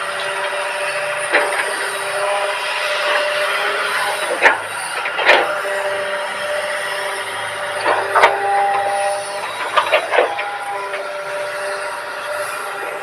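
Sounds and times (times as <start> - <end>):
excavator running: 0.0 - 13.0.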